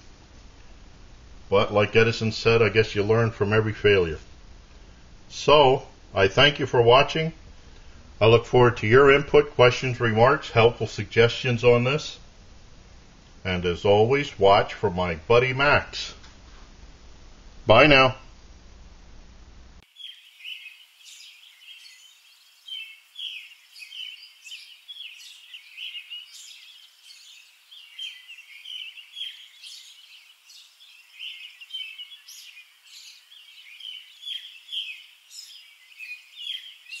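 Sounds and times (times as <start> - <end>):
songbirds chirping: 0.0 - 18.2, 19.8 - 37.0.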